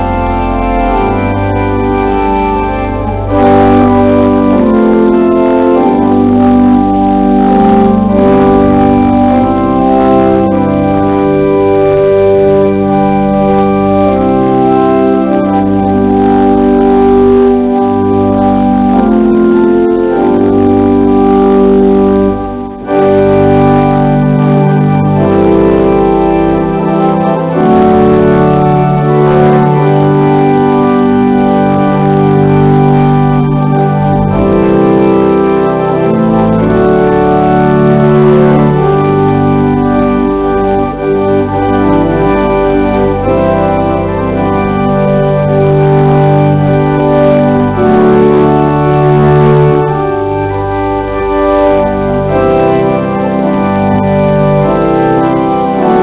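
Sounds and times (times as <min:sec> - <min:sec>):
deep organ pedal bass: 0:00.0 - 0:56.0
pipe organ playing sustained chords: 0:00.0 - 0:56.0.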